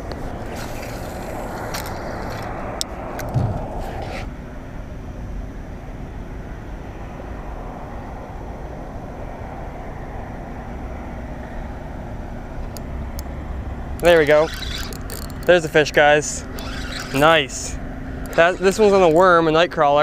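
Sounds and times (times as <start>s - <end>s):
outdoor rumble and hiss: 0.0s - 20.0s.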